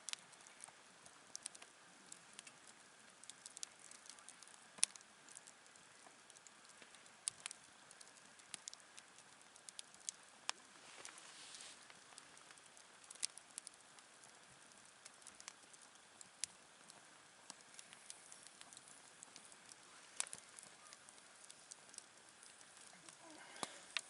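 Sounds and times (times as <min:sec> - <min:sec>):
campfire crackling and popping: 0:00.0 - 0:24.0
faint steady hiss: 0:00.0 - 0:24.0.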